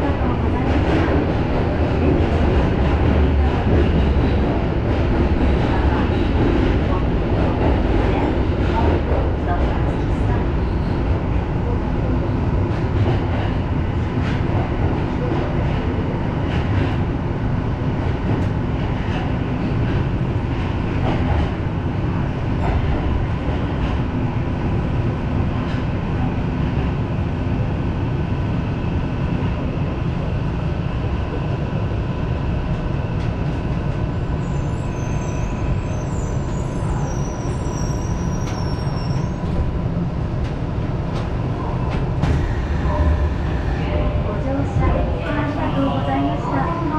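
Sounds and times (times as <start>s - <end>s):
train wheels rumbling: 0.0s - 46.9s.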